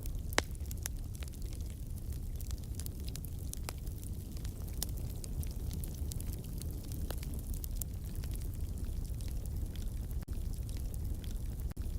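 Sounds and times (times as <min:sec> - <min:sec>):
campfire low rumble: 0:00.0 - 0:11.9
wood crackling and popping: 0:00.0 - 0:11.9.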